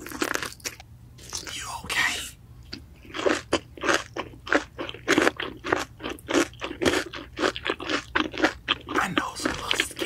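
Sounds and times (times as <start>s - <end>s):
crunchy chewing of fried chicken: 0.0s - 10.0s.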